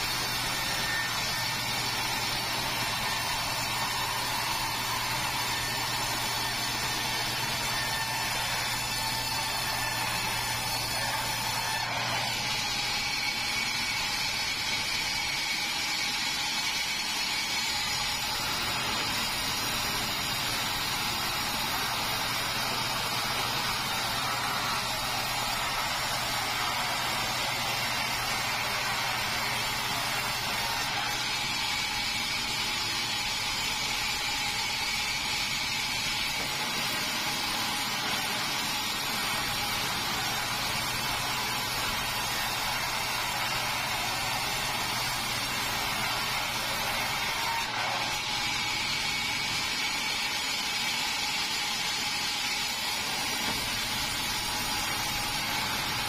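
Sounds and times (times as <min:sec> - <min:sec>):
saw blade cutting log: 0:00.0 - 0:56.0.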